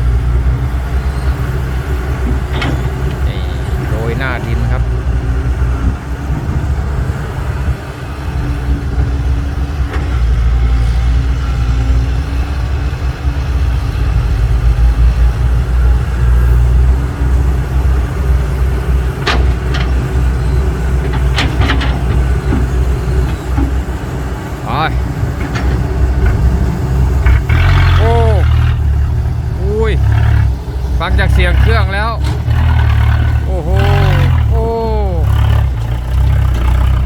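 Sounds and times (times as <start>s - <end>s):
heavy diesel engine rumbling: 0.0s - 37.0s.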